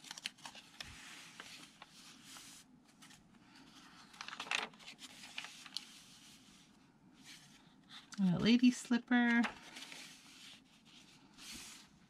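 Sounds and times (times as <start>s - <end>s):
paper pages rustling: 0.0s - 7.6s, 9.1s - 12.0s.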